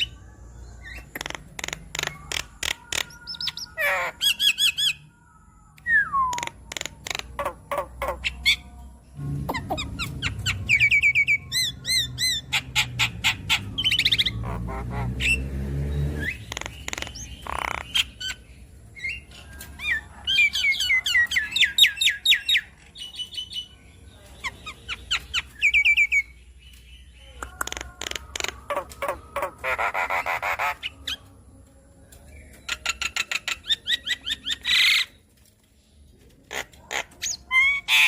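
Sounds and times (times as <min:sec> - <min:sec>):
bird singing with chirps and whistles: 0:00.0 - 0:14.6, 0:15.2 - 0:31.3, 0:32.1 - 0:35.2.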